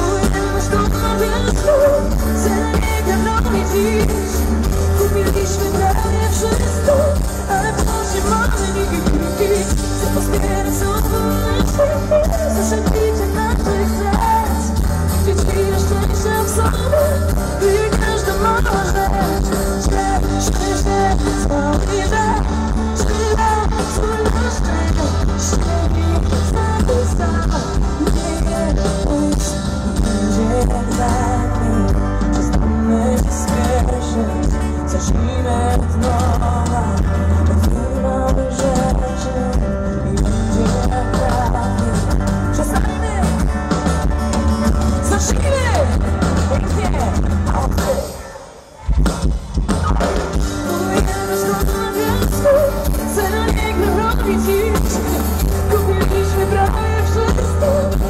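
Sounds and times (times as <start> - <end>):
live pop band: 0.0 - 58.0
woman singing: 0.0 - 58.0.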